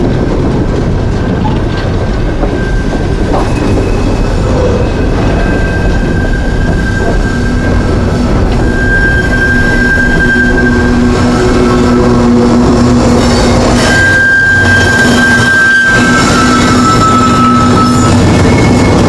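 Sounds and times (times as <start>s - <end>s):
freight train wheels rumbling: 0.0s - 19.0s
high wheel squeal: 1.2s - 19.0s.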